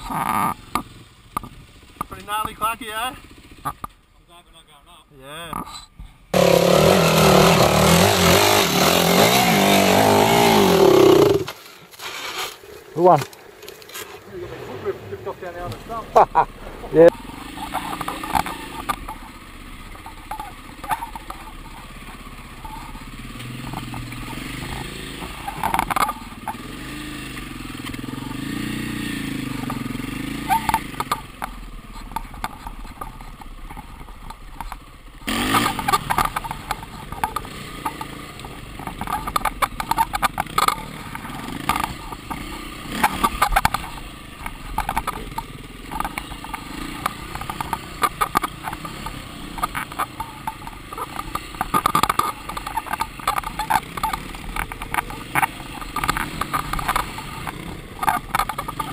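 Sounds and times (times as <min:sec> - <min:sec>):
dirt bike engine revving: 0:00.0 - 0:03.9, 0:06.3 - 0:58.9
bike rattling over rocks: 0:06.3 - 0:14.4, 0:15.2 - 0:58.9.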